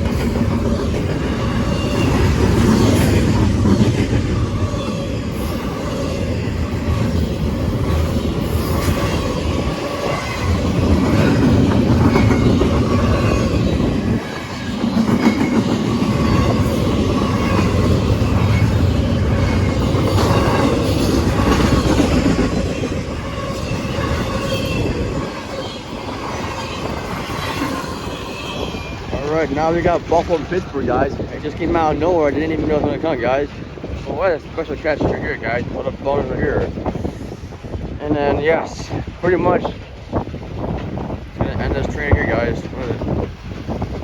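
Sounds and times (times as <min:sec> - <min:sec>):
freight train wheels rumbling: 0:00.0 - 0:44.0.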